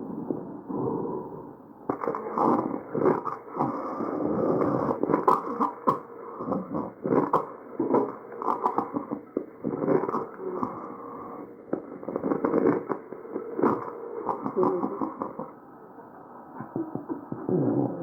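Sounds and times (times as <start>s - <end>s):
breath sounds through stethoscope: 0.1s - 15.5s.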